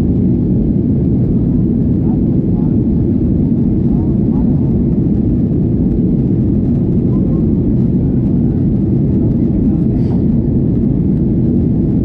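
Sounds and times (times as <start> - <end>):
jet airliner low rumble: 0.0 - 12.0.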